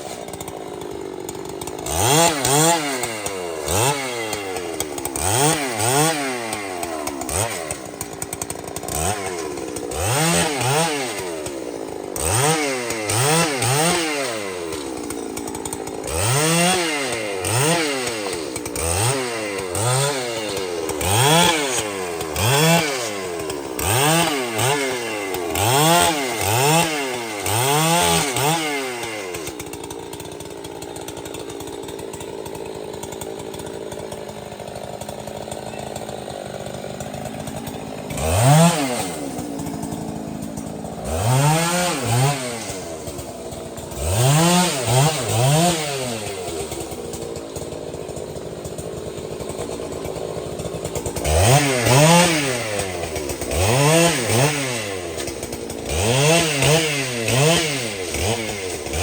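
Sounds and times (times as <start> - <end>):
chainsaw idling: 0.0 - 59.0
chainsaw revving: 0.0 - 59.0.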